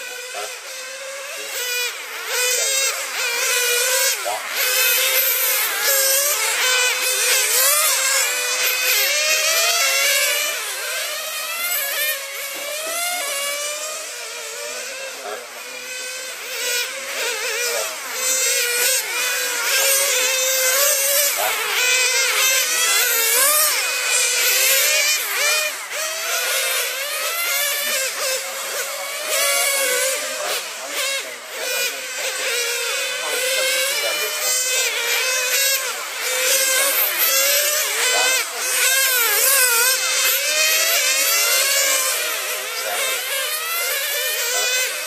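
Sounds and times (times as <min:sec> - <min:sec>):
small high-revving engines whining: 0:00.0 - 0:45.0.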